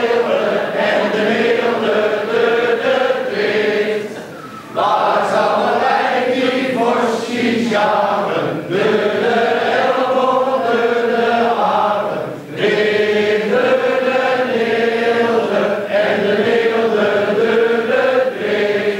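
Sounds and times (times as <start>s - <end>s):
group singing together: 0.0s - 18.9s.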